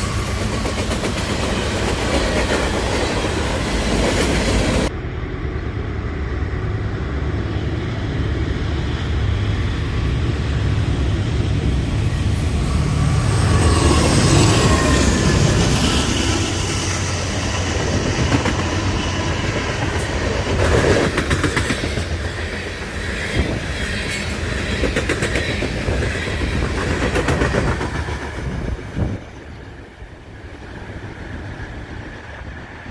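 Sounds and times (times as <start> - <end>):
train rumbling past: 0.0 - 32.9.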